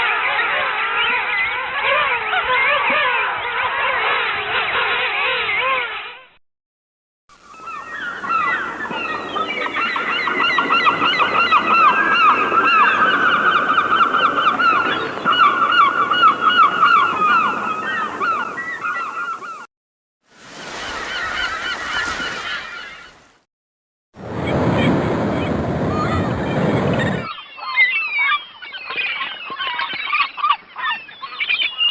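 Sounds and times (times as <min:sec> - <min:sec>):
flock of birds calling: 0:00.0 - 0:06.2, 0:07.4 - 0:19.7, 0:20.4 - 0:23.3, 0:25.4 - 0:31.9.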